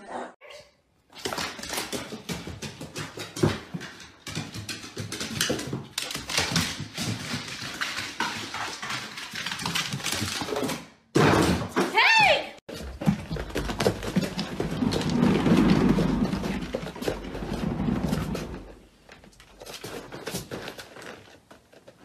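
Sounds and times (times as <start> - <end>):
dog paws on wooden stairs: 1.1 - 11.8, 12.7 - 22.0.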